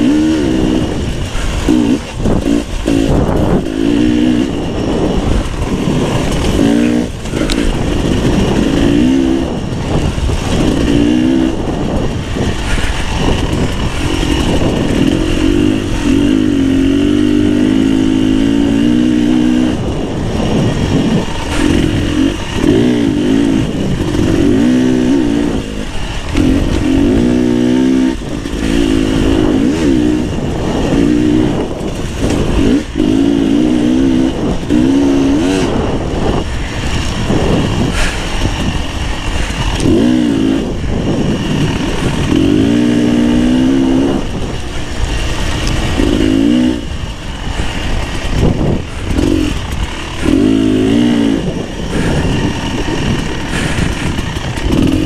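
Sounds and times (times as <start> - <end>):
motorcycle engine revving under load: 0.0 - 55.0.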